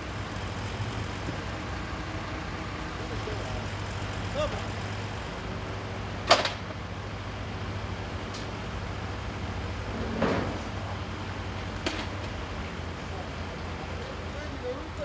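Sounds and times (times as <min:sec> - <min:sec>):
crane engine idling hum: 0:00.0 - 0:15.0.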